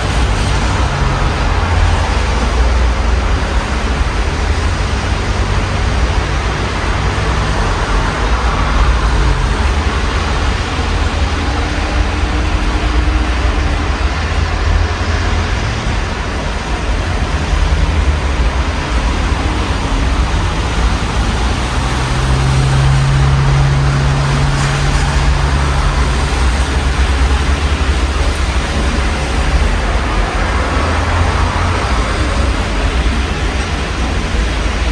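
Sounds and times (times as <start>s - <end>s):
low rumble of city traffic: 0.0s - 34.9s
passing vehicle engine hum: 0.0s - 34.9s
steady rain falling: 0.0s - 34.9s.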